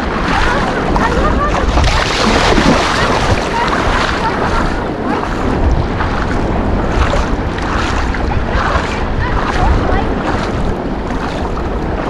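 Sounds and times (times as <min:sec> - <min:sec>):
rushing water and waves: 0:00.0 - 0:12.0
wind buffeting microphone: 0:00.0 - 0:12.0.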